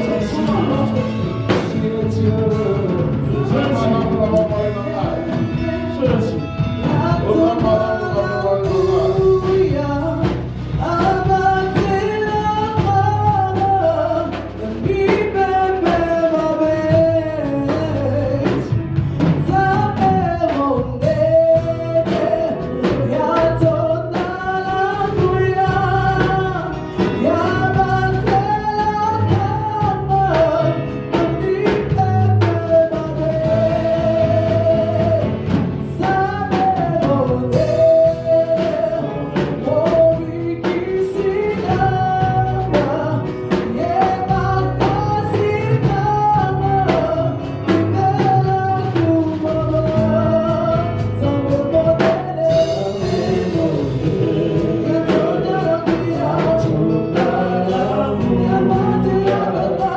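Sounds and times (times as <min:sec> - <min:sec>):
gospel worship music: 0:00.0 - 0:59.9
steady drum beat: 0:00.0 - 0:59.9.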